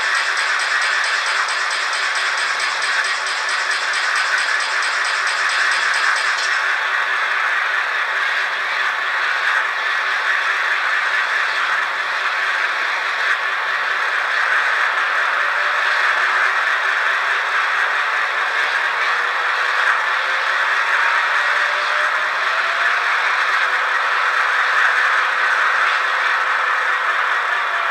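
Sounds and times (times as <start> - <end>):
model train rattly motor: 0.0 - 27.9.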